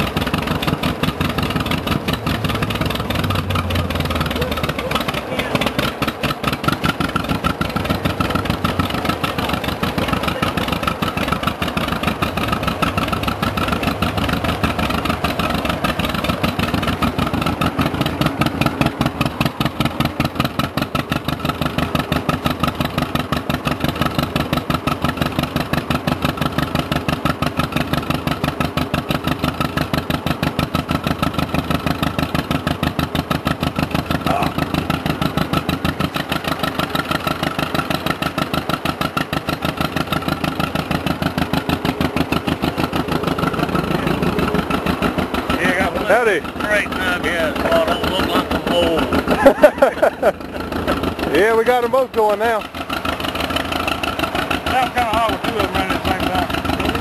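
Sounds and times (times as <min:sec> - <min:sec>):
tractor engine idling: 0:00.0 - 0:57.0.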